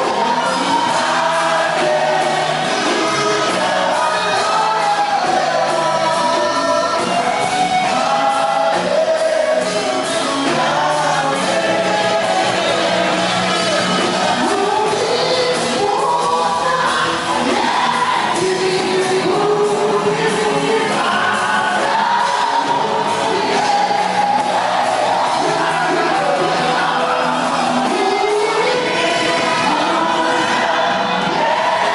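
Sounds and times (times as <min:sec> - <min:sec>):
voices singing: 0:00.0 - 0:31.9.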